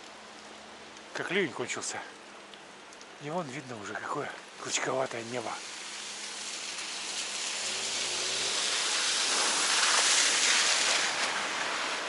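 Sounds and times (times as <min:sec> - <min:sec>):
tyres hissing on wet asphalt: 0:00.0 - 0:12.0.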